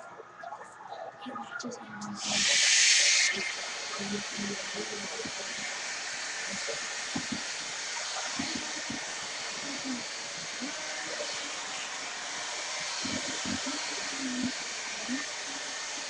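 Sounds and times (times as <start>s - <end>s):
hair dryer running: 2.2s - 16.0s.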